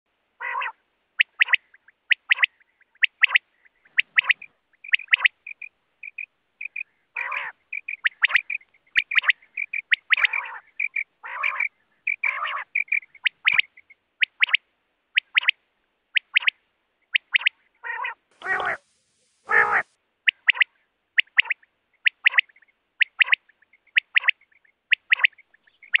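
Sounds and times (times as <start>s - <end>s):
quail calling: 0.4s - 14.6s, 15.2s - 26.0s.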